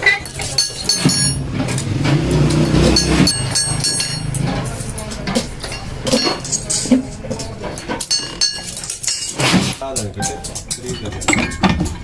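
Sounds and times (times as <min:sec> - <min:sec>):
metal parts clinking: 0:00.0 - 0:01.8, 0:03.3 - 0:12.0.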